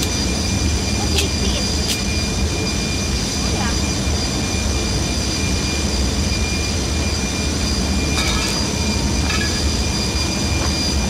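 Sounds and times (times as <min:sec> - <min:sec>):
machinery rumble with high tones: 0:00.0 - 0:11.0.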